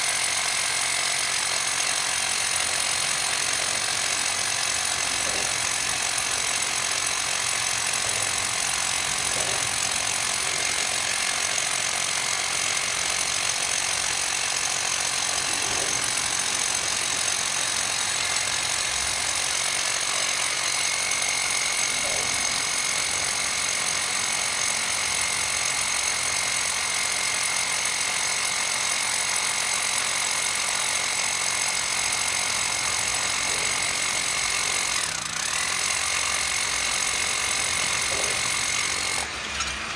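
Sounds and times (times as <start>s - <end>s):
power tool running: 0.0s - 39.9s.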